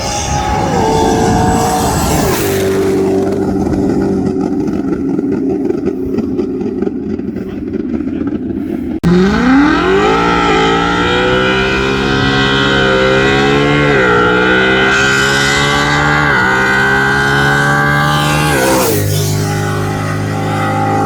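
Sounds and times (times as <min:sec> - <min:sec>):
car engine revving and accelerating: 0:00.0 - 0:21.0.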